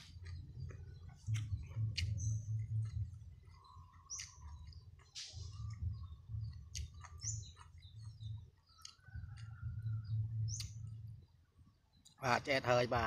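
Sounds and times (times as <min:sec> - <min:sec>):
close-up chewing: 0:00.0 - 0:11.0
small bird chirping: 0:00.0 - 0:12.6.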